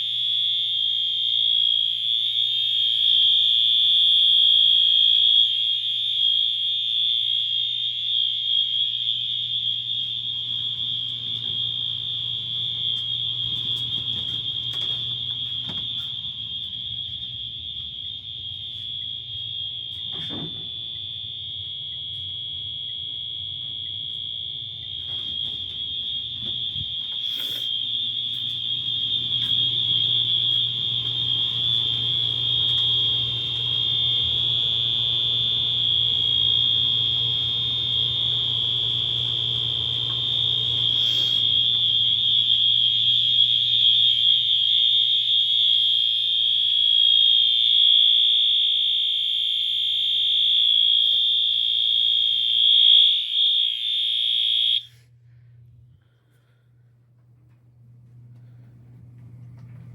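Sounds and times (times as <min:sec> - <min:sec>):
fire alarm horn tone: 0:00.0 - 0:55.1.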